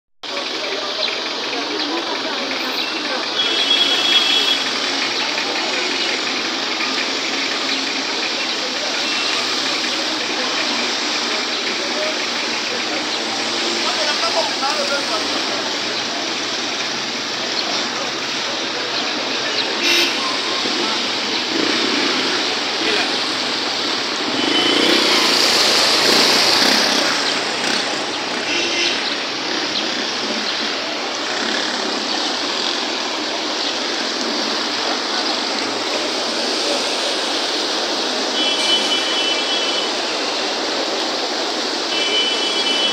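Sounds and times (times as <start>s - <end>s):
floodwater rushing: 0.4s - 42.9s.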